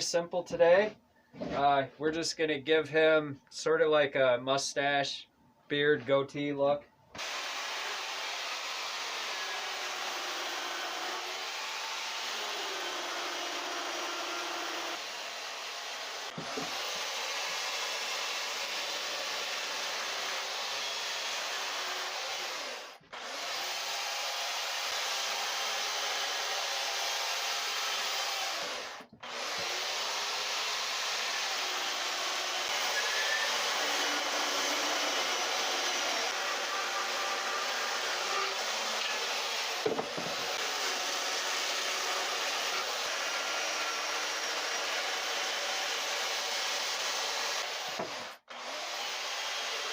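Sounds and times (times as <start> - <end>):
chainsaw cutting wood: 7.2 - 49.9.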